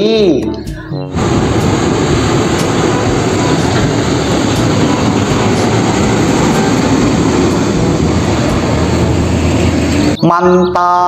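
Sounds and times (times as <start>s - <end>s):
heavy vehicle engine running: 0.0s - 10.8s.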